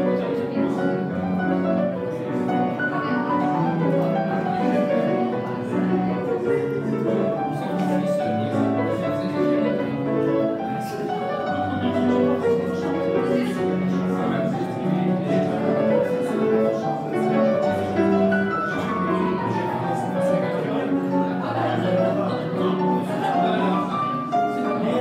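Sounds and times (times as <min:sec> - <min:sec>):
faint murmur of voices: 0:00.0 - 0:25.0
piano melody: 0:00.0 - 0:25.0.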